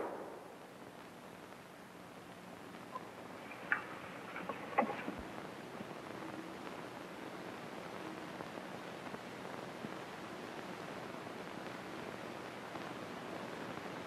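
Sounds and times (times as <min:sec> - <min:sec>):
film soundtrack hiss: 0:00.0 - 0:14.0.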